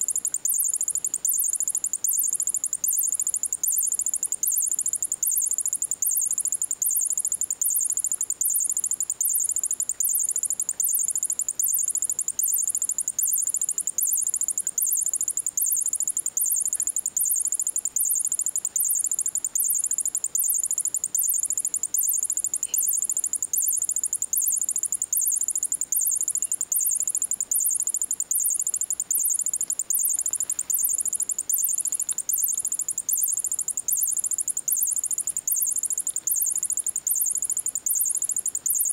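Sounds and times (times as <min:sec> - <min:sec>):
electronic toy chirping: 0:00.0 - 0:38.9.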